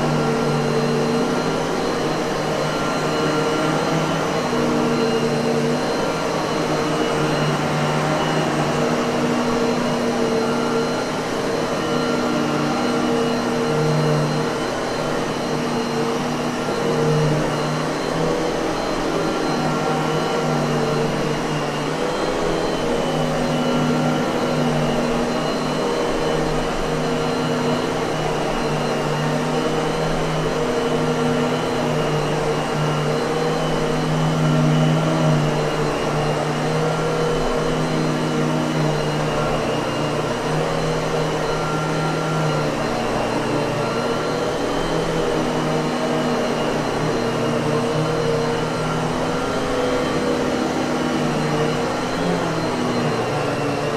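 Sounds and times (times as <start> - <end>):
vacuum cleaner motor whirring: 0.0 - 53.9.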